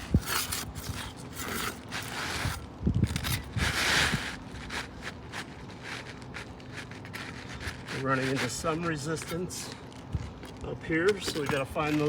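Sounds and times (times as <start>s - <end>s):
shingle scraping: 0.0s - 12.0s.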